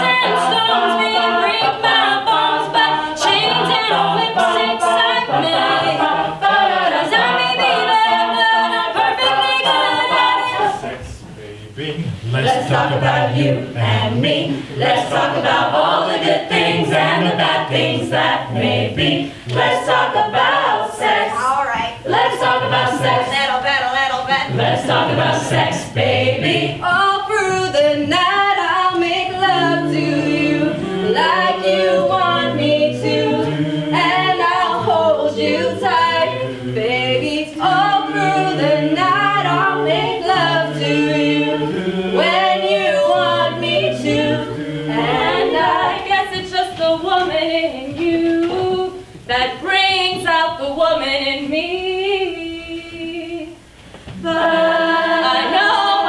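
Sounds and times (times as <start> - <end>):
vocal group singing a cappella: 0.0 - 56.0.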